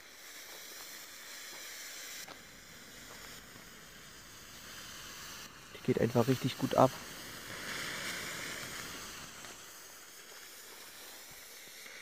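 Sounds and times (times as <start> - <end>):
smoke torch hissing: 0.0 - 12.0.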